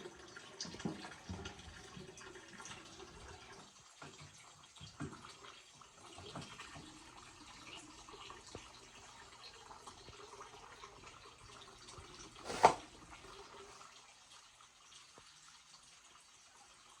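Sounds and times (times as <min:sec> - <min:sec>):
running and dripping water: 0:00.0 - 0:17.0.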